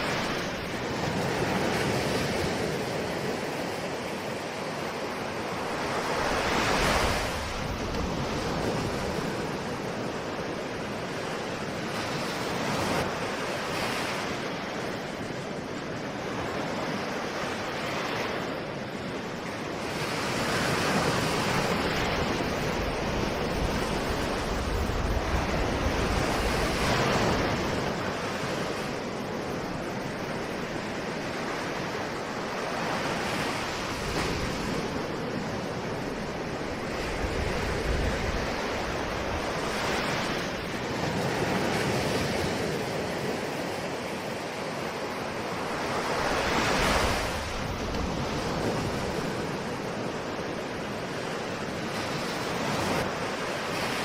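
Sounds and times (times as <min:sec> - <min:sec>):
ocean waves breaking on shore: 0:00.0 - 0:54.0
wind: 0:00.0 - 0:54.0.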